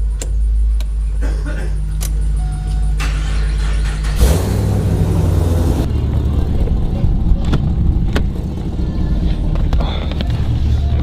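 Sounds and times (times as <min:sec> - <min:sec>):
car engine running: 0:01.8 - 0:11.0.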